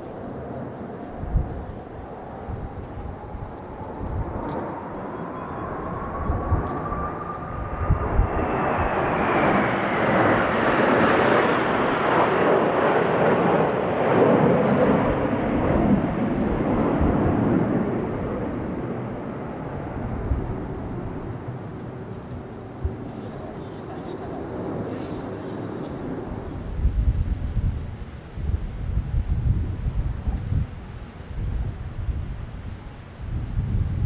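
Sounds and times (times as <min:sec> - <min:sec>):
jet whine: 0:00.0 - 0:34.0
jets roaring past: 0:00.0 - 0:34.0
wind buffeting microphone: 0:00.0 - 0:34.0.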